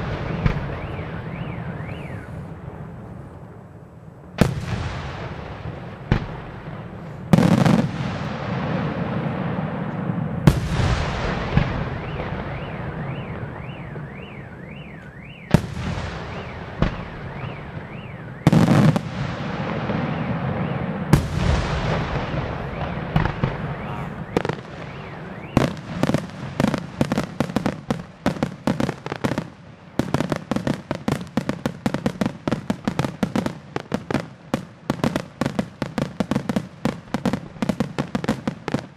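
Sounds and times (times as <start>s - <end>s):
firework shells booming: 0.0s - 2.9s, 4.4s - 38.9s.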